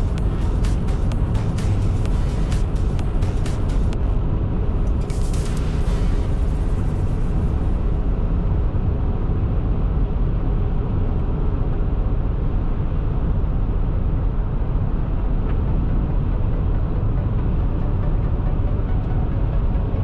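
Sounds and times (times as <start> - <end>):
vehicle driving on snowy road: 0.0 - 20.0.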